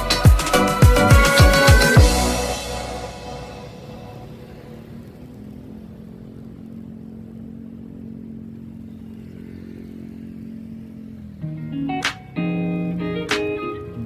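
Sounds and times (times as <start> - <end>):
motorcycle engine droning: 0.0 - 14.0
road noise: 0.0 - 14.0.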